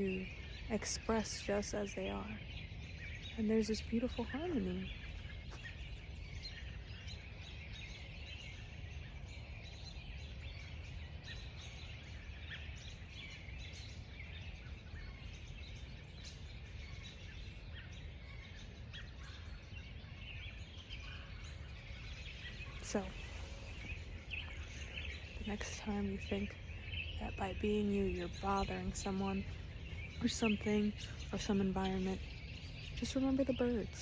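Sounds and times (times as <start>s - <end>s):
birds chirping and singing: 0.0s - 34.0s
low steady rumble: 0.0s - 34.0s.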